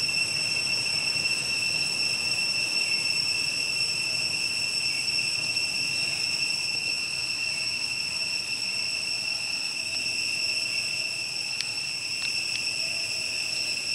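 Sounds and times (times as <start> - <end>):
insects droning: 0.0 - 13.9.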